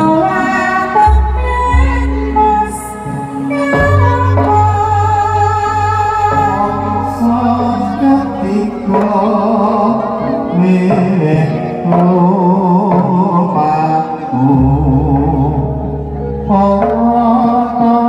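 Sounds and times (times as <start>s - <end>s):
gamelan instrumental notes: 0.0s - 18.0s
person singing wavering melody: 0.0s - 18.0s.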